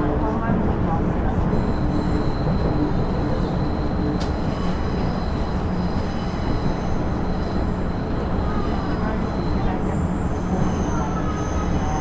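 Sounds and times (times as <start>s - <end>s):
diesel railcar rumbling on rail: 0.0s - 12.0s
faint high steady tone: 1.6s - 12.0s.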